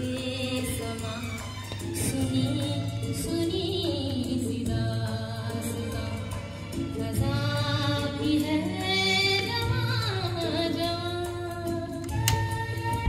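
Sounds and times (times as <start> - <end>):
singing with music from record: 0.0 - 13.0.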